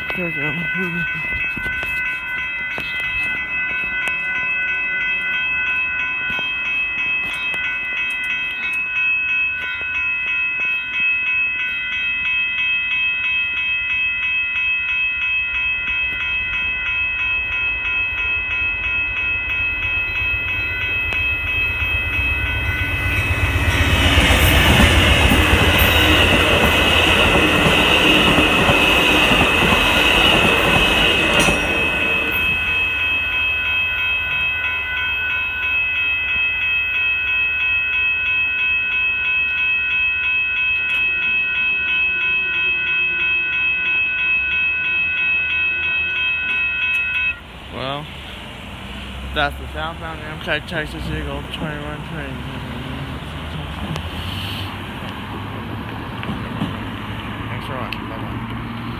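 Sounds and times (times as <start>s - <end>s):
passenger train rumbling past: 0.0s - 58.9s
railroad crossing bells ringing: 0.0s - 58.9s.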